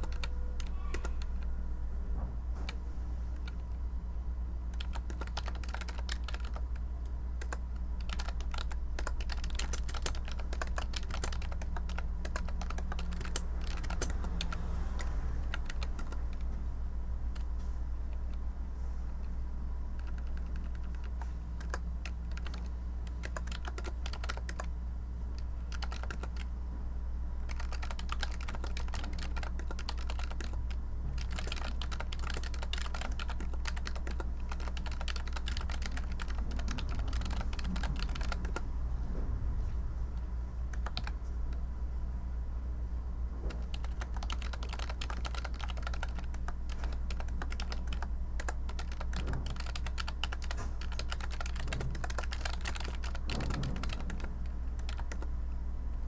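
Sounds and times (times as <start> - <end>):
keyboard typing: 0.0 - 1.5, 3.4 - 3.8, 4.7 - 16.6, 17.3 - 18.4, 20.0 - 24.7, 25.3 - 26.5, 27.4 - 38.7, 40.7 - 41.6, 43.4 - 55.3
steady low hum: 0.0 - 56.0.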